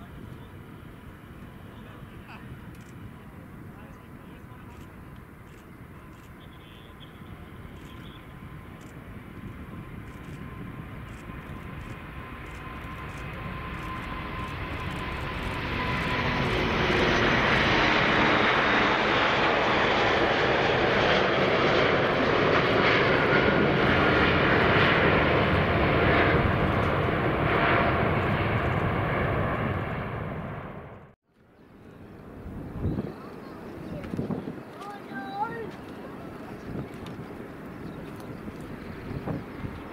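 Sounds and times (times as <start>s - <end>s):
jet engines roaring at takeoff: 0.0s - 39.9s.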